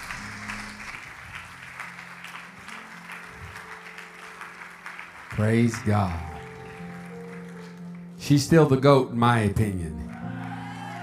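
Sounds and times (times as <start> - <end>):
crowd clapping and applauding: 0.0 - 8.7, 10.0 - 11.0
soft sustained background music: 0.0 - 11.0.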